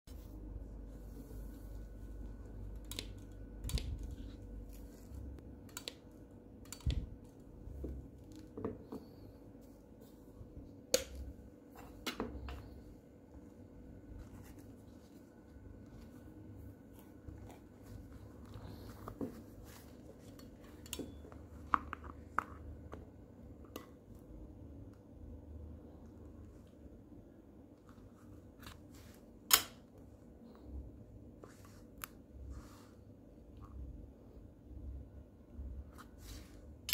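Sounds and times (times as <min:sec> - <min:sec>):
faint steady hum: 0:00.1 - 0:36.9.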